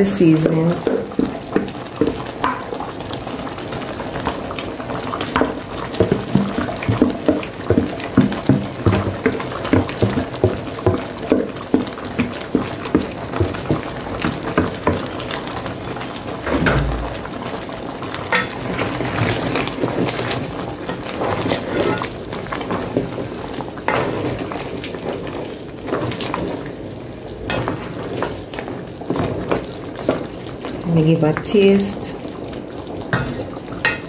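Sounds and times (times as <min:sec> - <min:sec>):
pot simmering and bubbling: 0:00.0 - 0:34.0
wooden spoon stirring in a pot: 0:00.0 - 0:34.0.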